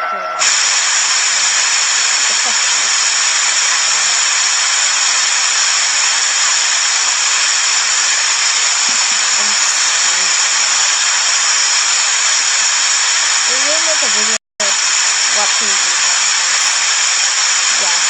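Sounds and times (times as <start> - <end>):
loud static hiss: 0.0 - 18.0.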